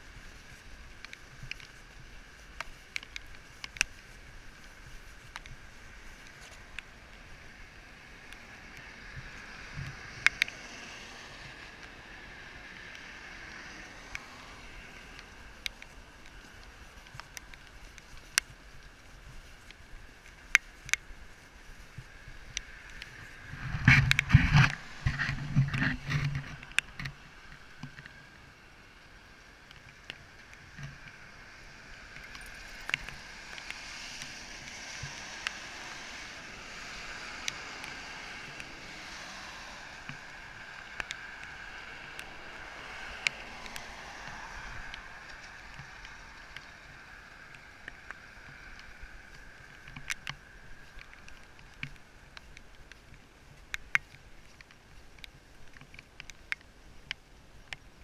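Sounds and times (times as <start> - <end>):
tyre hiss on wet road: 0.0 - 25.2, 26.9 - 52.3.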